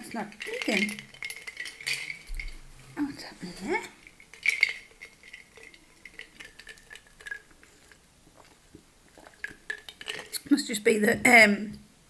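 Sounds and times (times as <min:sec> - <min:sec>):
glass and tableware clinking: 0:00.0 - 0:08.6, 0:09.2 - 0:10.4.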